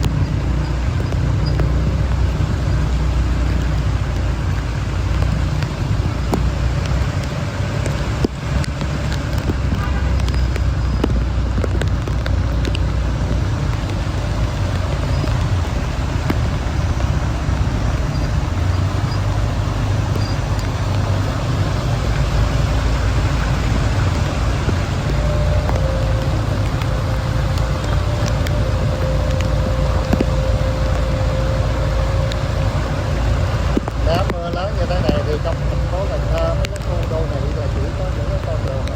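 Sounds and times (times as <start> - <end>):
heavy low rumble: 0.0 - 38.9
road and engine noise: 0.0 - 38.9.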